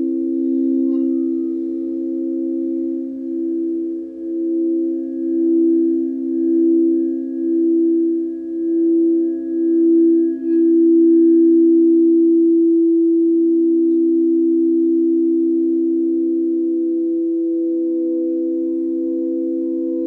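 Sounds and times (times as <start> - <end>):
sustained low pure tones: 0.0 - 20.0.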